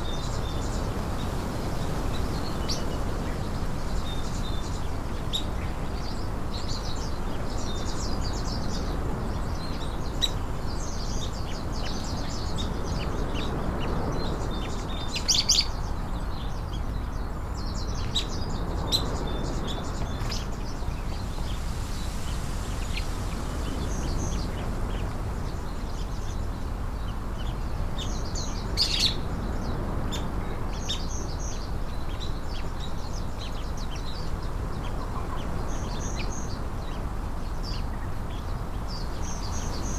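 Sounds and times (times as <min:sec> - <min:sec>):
small birds chirping: 0:00.0 - 0:39.9
steady low background noise: 0:00.0 - 0:39.9.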